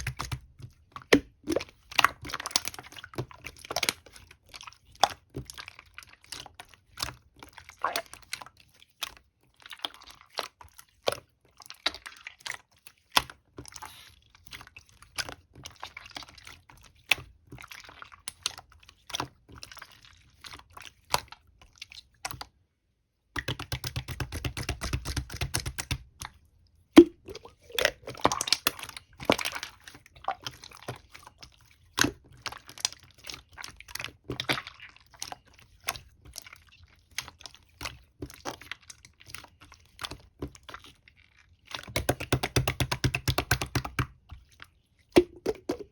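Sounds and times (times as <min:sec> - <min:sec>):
slime squishing with clicks and pops: 0:00.0 - 0:20.0, 0:23.3 - 0:41.0, 0:41.7 - 0:44.5, 0:45.1 - 0:45.9.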